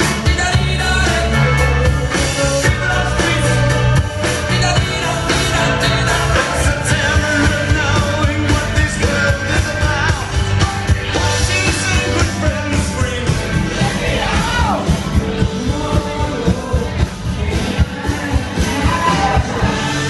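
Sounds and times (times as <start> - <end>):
rock song with lead vocal: 0.0 - 20.0.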